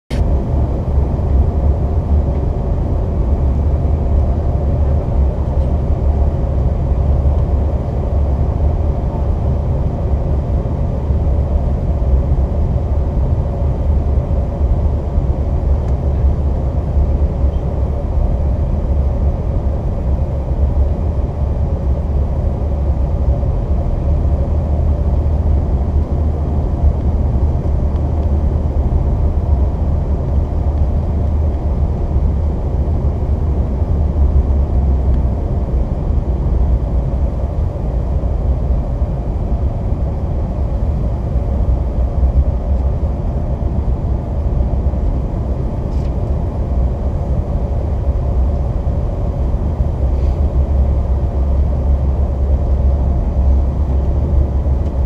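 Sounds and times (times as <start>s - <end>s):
jet cabin airflow and engine rumble: 0.1s - 55.0s.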